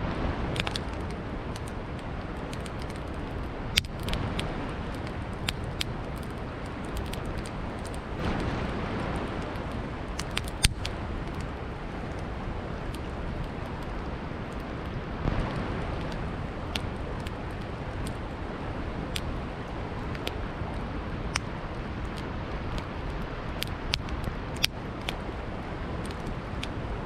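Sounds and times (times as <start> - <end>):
rushing river: 0.0 - 27.0
campfire crackling and popping: 0.1 - 27.0.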